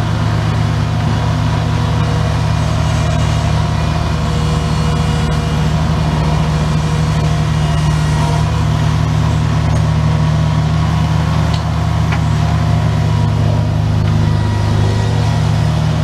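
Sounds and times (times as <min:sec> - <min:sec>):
loader engine running steadily: 0:00.0 - 0:16.0.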